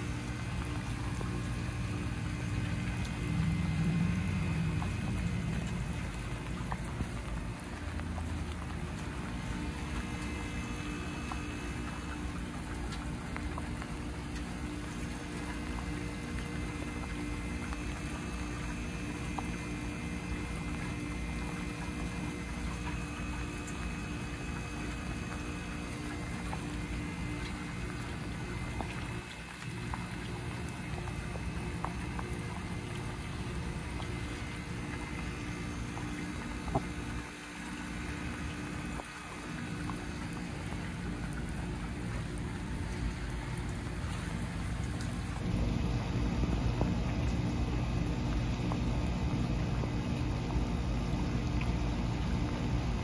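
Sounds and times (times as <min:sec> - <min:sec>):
heat pump humming: 0:00.0 - 0:53.0
raindrops tapping on microphone: 0:00.0 - 0:53.0.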